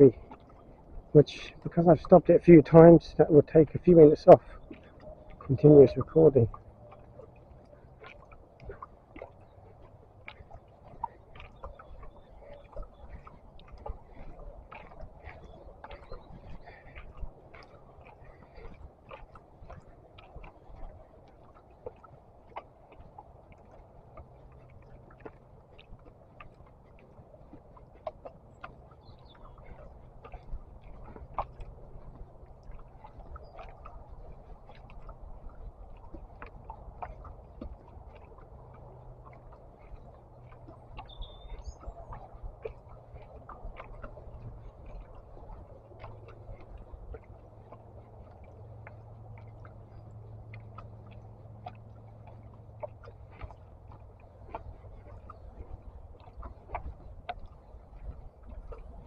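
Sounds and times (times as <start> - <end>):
footsteps on path: 0.0 - 49.0
wind rumble on microphone: 0.0 - 59.0.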